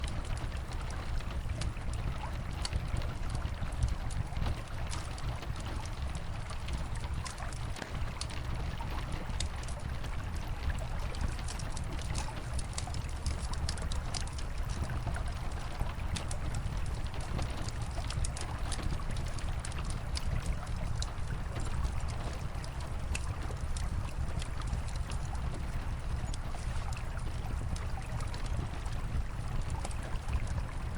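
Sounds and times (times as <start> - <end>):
rain falling: 0.0 - 30.9
wood fire crackling: 0.0 - 30.9.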